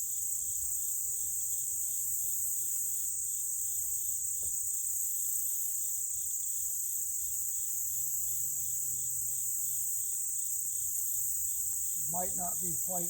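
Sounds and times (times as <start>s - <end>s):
high-pitched insect chorus: 0.0s - 13.0s
lower pulsing insect call: 0.0s - 13.0s.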